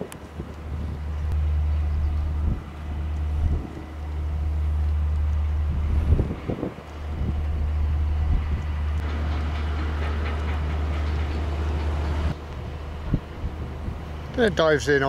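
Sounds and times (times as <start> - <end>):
wind rumbling on microphone: 0.0 - 9.1, 9.7 - 15.0.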